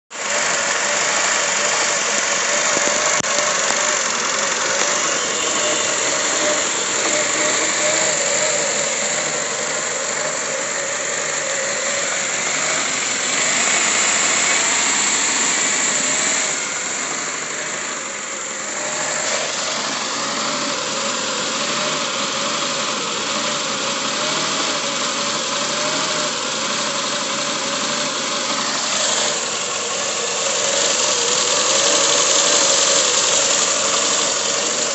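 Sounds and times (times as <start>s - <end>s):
engine idling roughly: 0.0s - 34.9s.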